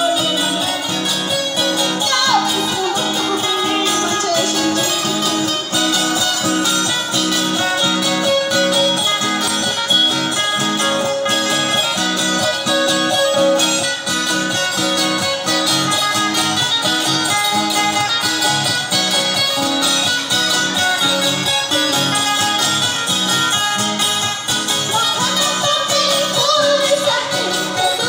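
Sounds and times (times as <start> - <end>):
strummed plucked strings: 0.0 - 28.0.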